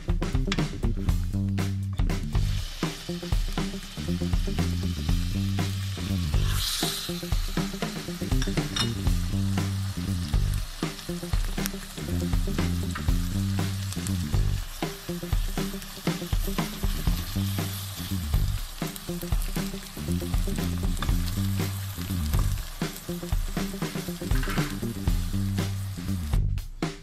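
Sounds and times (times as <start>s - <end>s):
background music with bassline: 0.0s - 27.0s
meat sizzling in oil: 2.3s - 26.3s.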